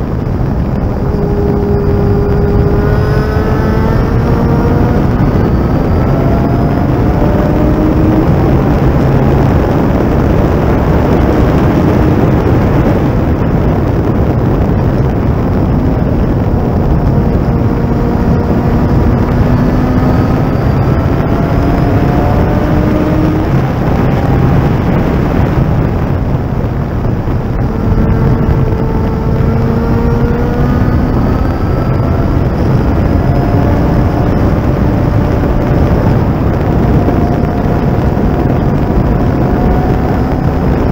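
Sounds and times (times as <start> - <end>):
race car engine revving: 0.0 - 40.9
wind and road noise: 0.0 - 40.9.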